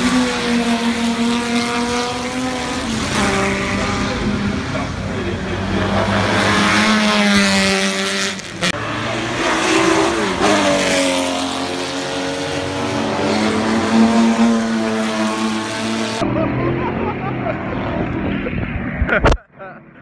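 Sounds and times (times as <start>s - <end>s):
racing cars passing at full throttle: 0.0s - 20.0s.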